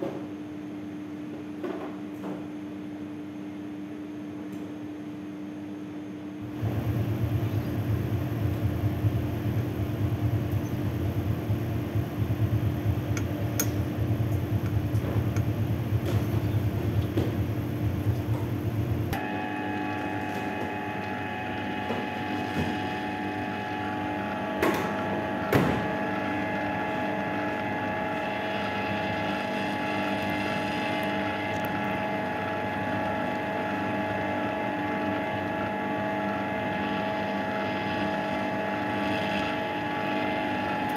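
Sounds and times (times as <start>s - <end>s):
stand mixer humming: 6.4s - 40.9s.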